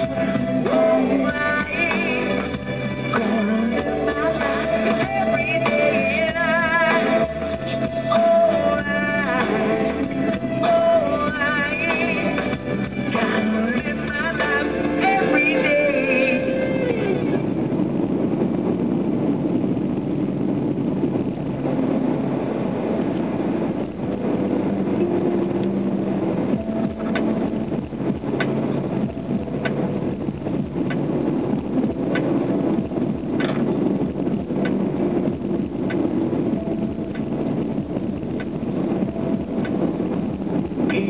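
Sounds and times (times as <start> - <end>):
car engine cruising: 0.0 - 41.0
tyre and road noise: 0.0 - 41.0.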